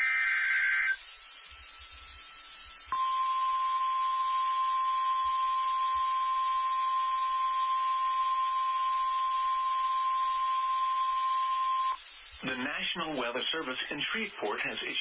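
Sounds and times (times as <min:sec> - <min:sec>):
steady high-pitched alarm tone: 0:00.0 - 0:13.4
radio hiss: 0:00.0 - 0:15.0.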